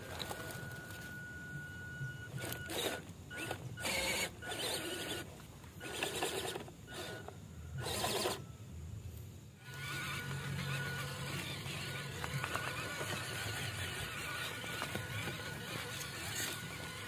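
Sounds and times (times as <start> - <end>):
small electric motor whining: 0.0 - 8.5, 9.6 - 17.0.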